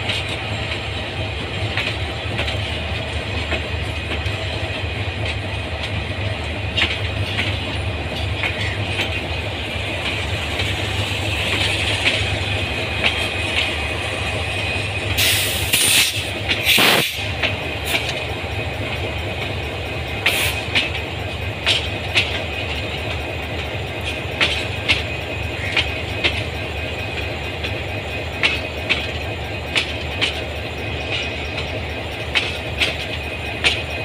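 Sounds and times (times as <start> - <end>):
train rumbling over track: 0.0 - 34.0
train wheel clicks: 0.0 - 34.0.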